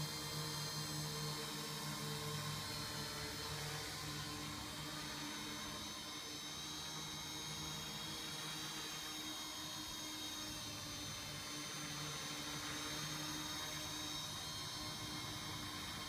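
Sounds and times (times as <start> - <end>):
drone propellers whirring: 0.0 - 16.0.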